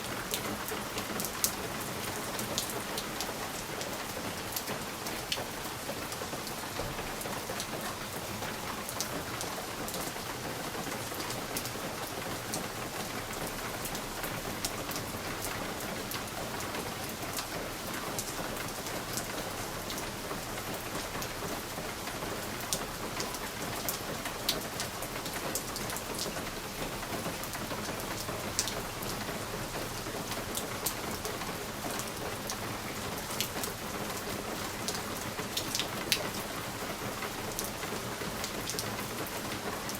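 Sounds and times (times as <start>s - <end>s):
rain on a window pane: 0.0s - 39.9s.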